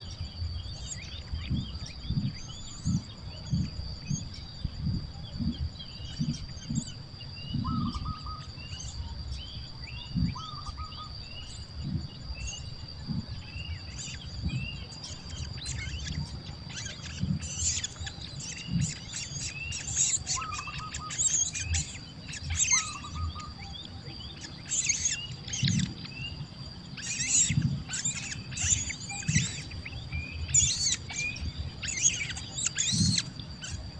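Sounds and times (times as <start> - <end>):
birds chirping: 0.0 - 33.9
steady high-pitched tone: 0.0 - 33.9.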